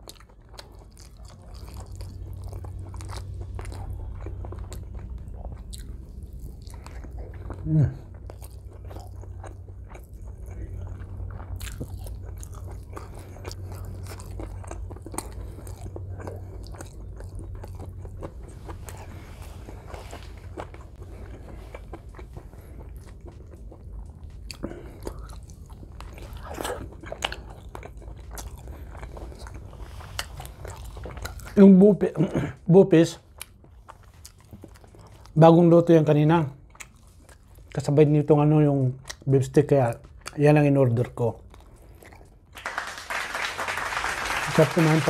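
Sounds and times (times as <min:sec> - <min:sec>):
chewing with wet mouth clicks: 0:00.0 - 0:32.3, 0:33.2 - 0:35.4, 0:36.6 - 0:38.0, 0:38.8 - 0:42.6
low steady hum: 0:00.0 - 0:45.0.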